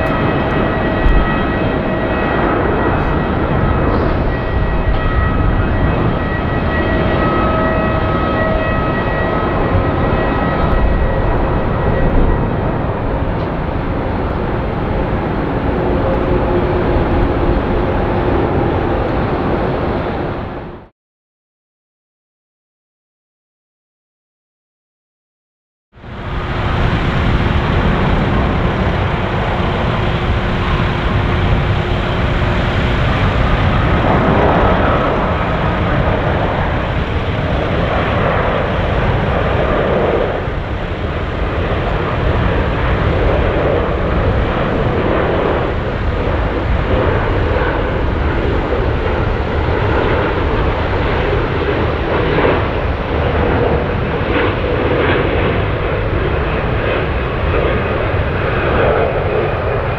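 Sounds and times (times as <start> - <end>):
jet engine rumble: 0.0 - 20.9, 26.0 - 59.9.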